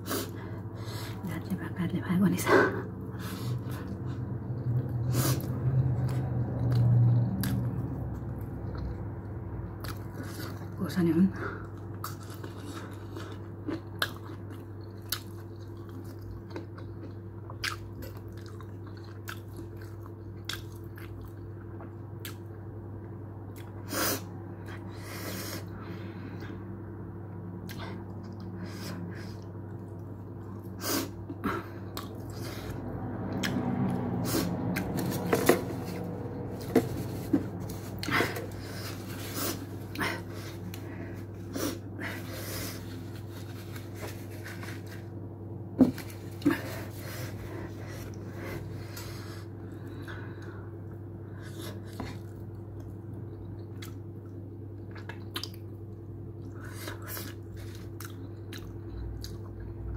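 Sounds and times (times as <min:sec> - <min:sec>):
steady low hum: 0:00.0 - 0:59.9
person chewing food: 0:03.2 - 0:10.8, 0:11.6 - 0:22.7, 0:23.5 - 0:23.9, 0:27.6 - 0:59.9.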